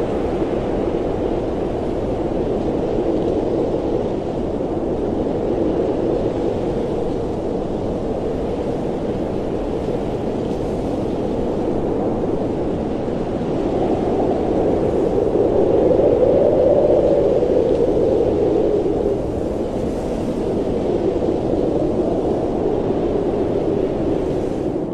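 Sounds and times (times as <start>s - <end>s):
blizzard wind rushing: 0.0s - 24.9s.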